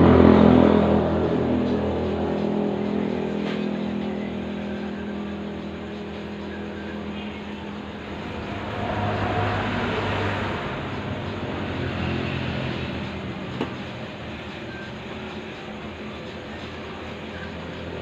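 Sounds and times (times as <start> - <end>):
motor engine humming: 1.5 - 18.0.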